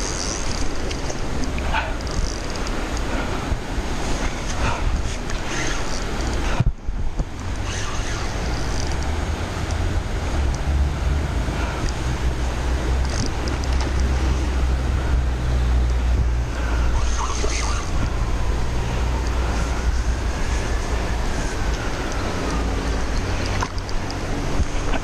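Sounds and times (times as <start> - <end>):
river rushing: 0.0 - 25.0
wind buffeting microphone: 0.0 - 25.0.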